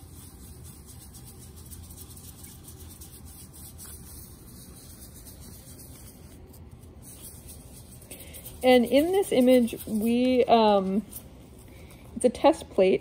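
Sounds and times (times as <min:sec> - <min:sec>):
paper rubbing on plate: 0:00.0 - 0:12.9
low room hum: 0:00.0 - 0:13.0.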